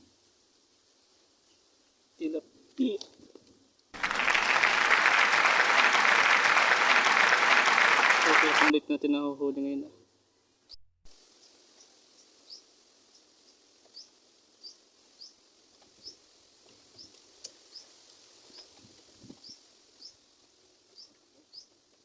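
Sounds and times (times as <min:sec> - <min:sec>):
soft outdoor hiss: 0:00.0 - 0:22.0.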